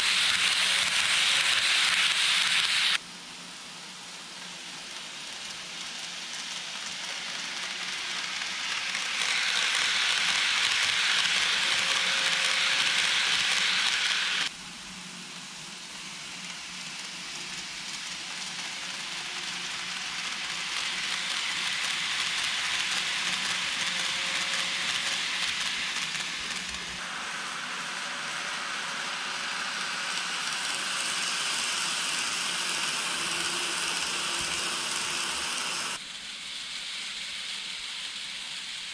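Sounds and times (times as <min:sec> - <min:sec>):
model train wheels rolling on rails: 0:00.0 - 0:14.6, 0:15.3 - 0:38.9.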